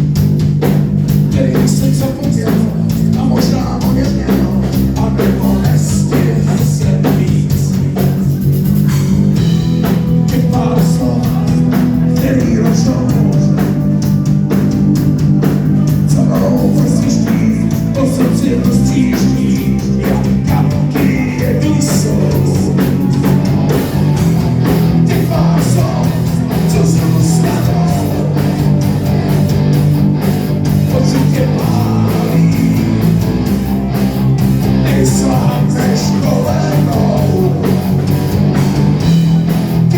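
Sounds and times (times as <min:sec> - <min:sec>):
drums: 0:00.0 - 0:39.9
electric guitars: 0:00.0 - 0:39.9
lead singer: 0:01.1 - 0:08.6, 0:09.4 - 0:39.9.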